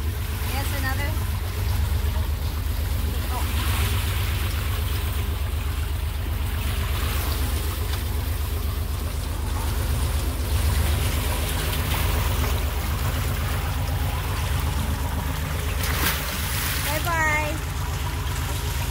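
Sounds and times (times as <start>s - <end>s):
boat engine throbbing: 0.0s - 18.9s
water splashing along hull: 0.0s - 18.9s.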